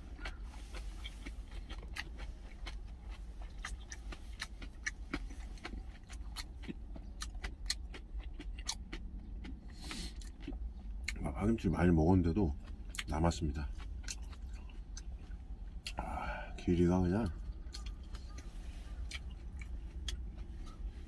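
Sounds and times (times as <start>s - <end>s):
chewing: 0.0s - 21.0s
steady low hum: 0.0s - 21.0s.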